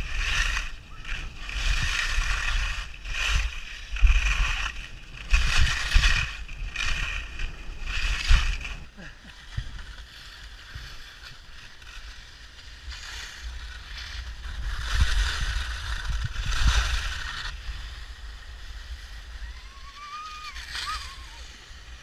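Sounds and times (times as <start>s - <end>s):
skis scraping over snow: 0.0s - 22.0s
wind rumble on microphone: 0.0s - 22.0s.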